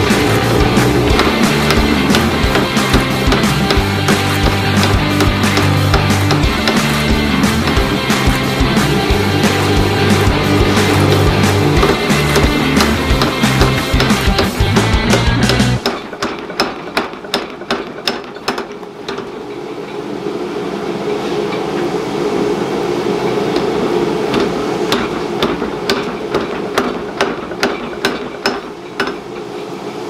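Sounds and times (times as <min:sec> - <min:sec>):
power hammer blows on metal: 0:00.0 - 0:19.4, 0:23.5 - 0:29.4
machine running: 0:00.0 - 0:30.0.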